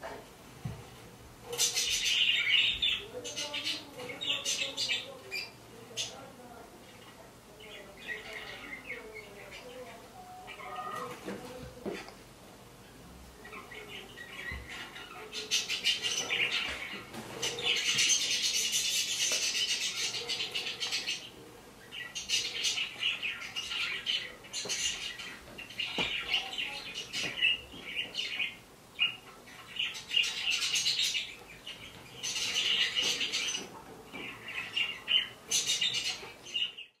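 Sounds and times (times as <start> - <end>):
parrots chirping and chattering: 1.4 - 12.1, 12.7 - 37.0.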